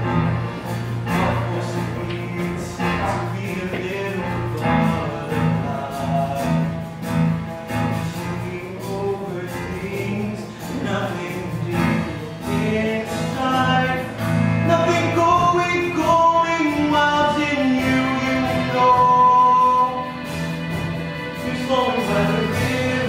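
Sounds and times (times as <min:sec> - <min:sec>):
strummed acoustic guitar: 0:00.0 - 0:23.0
man singing: 0:01.0 - 0:23.0.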